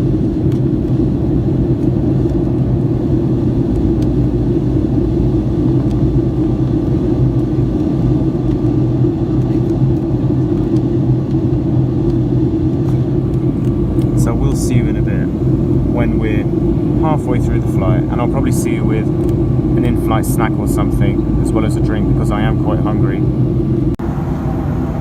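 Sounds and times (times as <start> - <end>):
jet engine drone in cabin: 0.0 - 25.0.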